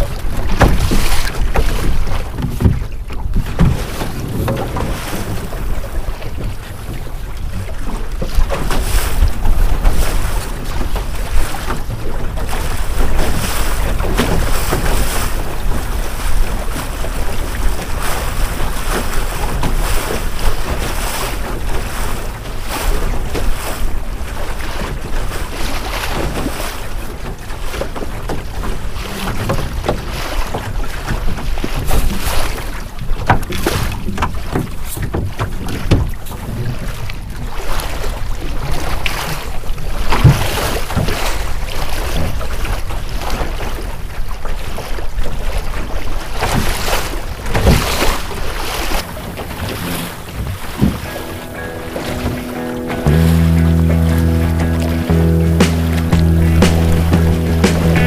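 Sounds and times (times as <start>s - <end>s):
water rushing along hull: 0.0s - 58.0s
waves slapping against bow: 0.0s - 58.0s.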